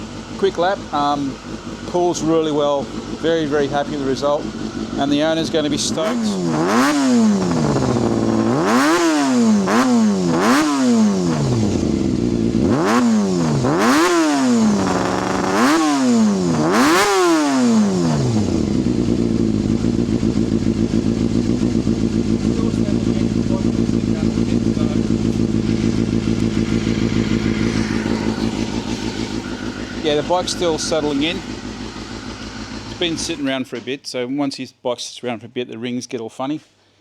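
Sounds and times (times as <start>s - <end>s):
motorcycle engine revving and idling: 0.0s - 33.9s.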